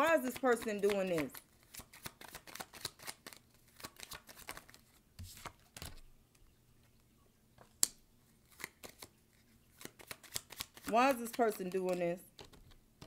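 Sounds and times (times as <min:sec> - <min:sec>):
cards shuffling: 0:00.0 - 0:06.1, 0:07.6 - 0:12.8.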